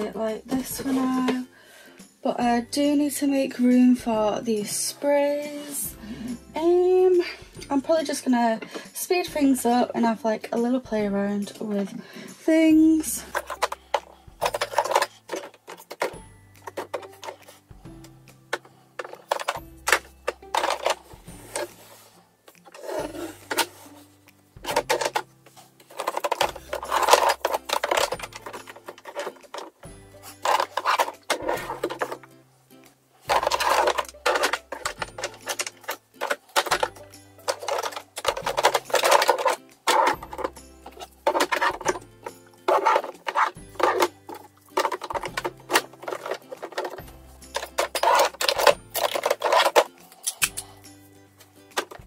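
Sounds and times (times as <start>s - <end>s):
makeup items clattering in a drawer: 0.0s - 1.5s, 7.6s - 17.7s, 18.4s - 22.0s, 22.6s - 32.3s, 33.2s - 50.6s, 51.6s - 52.0s.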